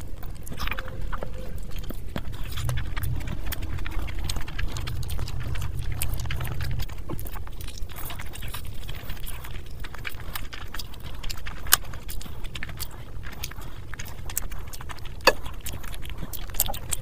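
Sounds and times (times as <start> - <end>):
wet chewing and lip smacking: 0.0 - 17.0.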